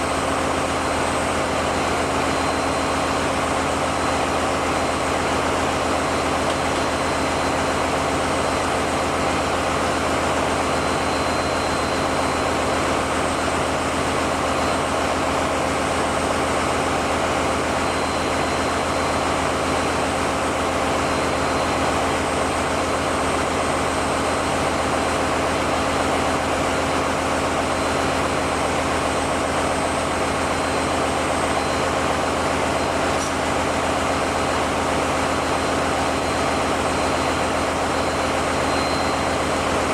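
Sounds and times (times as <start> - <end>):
diesel generator drone: 0.0 - 39.9.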